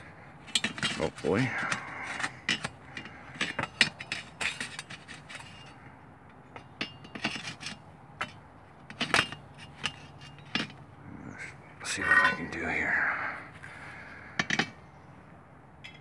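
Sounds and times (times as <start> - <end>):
metal clanks and scrapes: 0.0 - 14.9.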